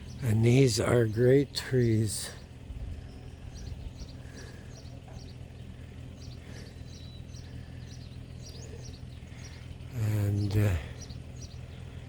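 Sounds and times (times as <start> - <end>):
low outdoor rumble: 0.0 - 12.0
small birds chirping: 0.0 - 12.0.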